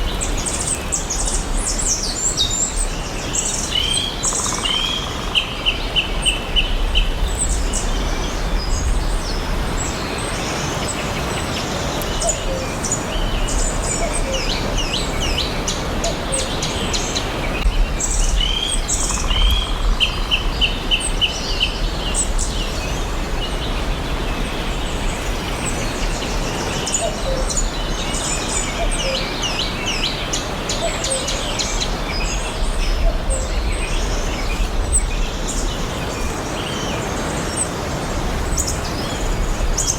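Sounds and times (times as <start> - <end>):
background hiss and rumble: 0.0 - 39.9
songbirds chirping and singing: 0.0 - 39.9.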